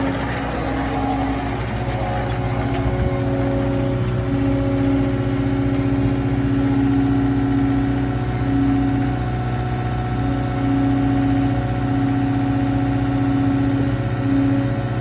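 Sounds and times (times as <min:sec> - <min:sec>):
steady hum: 0:00.0 - 0:15.0
track loader mulching: 0:00.0 - 0:15.0.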